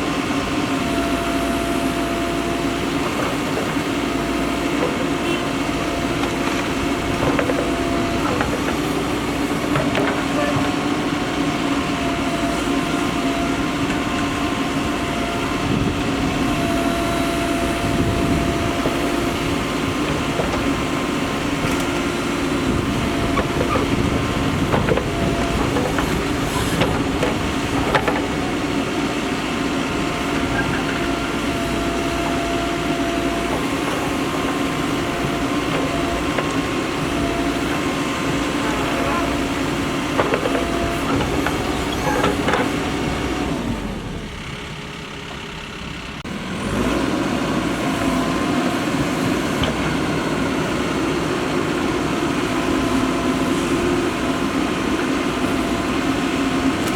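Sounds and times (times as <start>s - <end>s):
backhoe diesel engine running: 0.0s - 56.9s.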